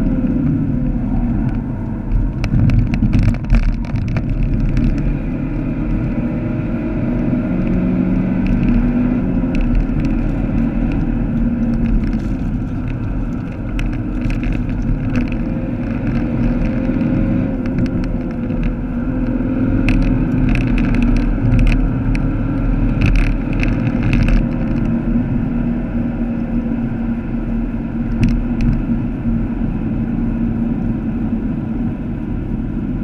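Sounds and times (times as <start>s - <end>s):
car engine at speed: 0.0s - 33.0s
road and wind rumble: 0.0s - 33.0s.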